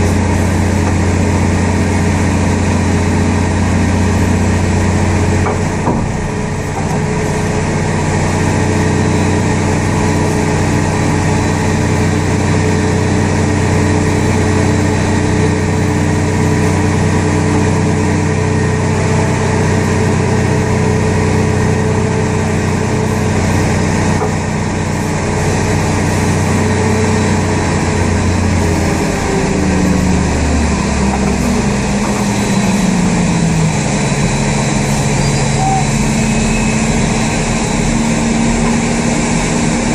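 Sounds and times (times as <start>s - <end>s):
tug engine droning: 0.0s - 39.9s.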